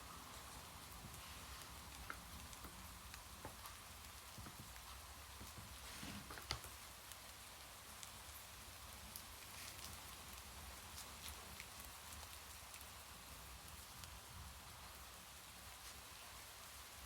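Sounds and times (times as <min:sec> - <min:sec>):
soft rain hiss: 0:00.0 - 0:17.0.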